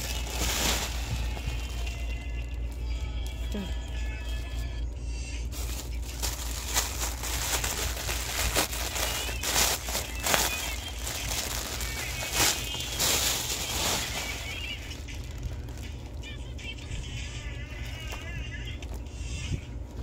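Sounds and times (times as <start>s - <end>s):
plastic packaging crinkling: 0.0s - 19.2s
steady low hum: 0.0s - 20.0s.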